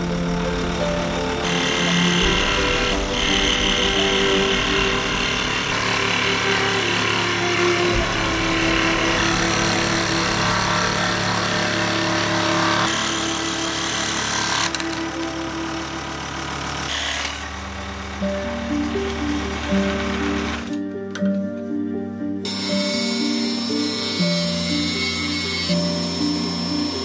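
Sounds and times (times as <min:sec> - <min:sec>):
scroll saw cutting wood: 0:00.0 - 0:18.3, 0:22.5 - 0:27.0.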